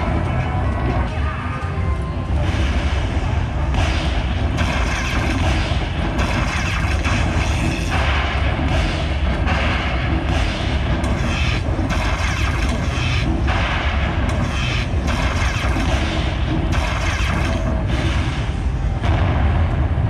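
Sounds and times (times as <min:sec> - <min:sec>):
heavy low booming: 0:02.2 - 0:20.0.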